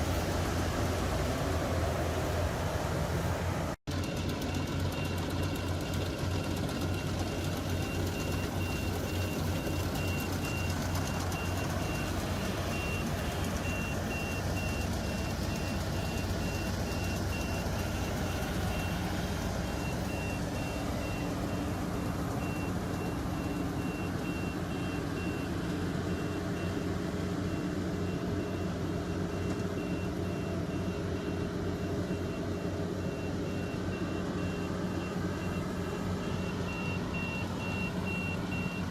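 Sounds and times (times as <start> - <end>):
harvester engine running: 0.0 - 38.9
reversing alarm beeping: 4.0 - 38.9.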